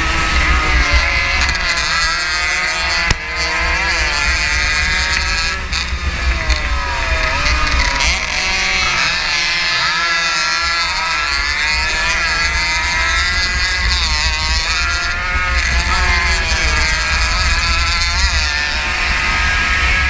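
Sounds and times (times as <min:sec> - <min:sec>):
racing motorcycle engine revving: 0:00.0 - 0:20.0
wind rumble on microphone: 0:00.0 - 0:20.0.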